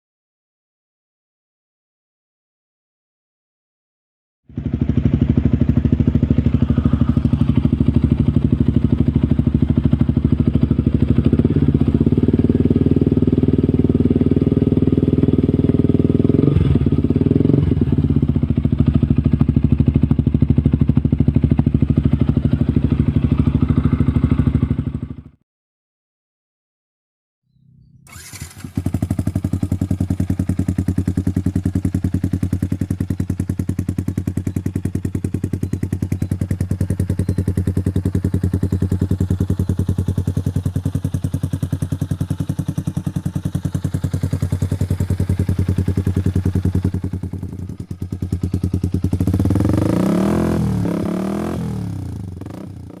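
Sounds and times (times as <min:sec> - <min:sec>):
motorcycle engine starting and idling: 0:04.5 - 0:25.4, 0:27.5 - 0:53.0.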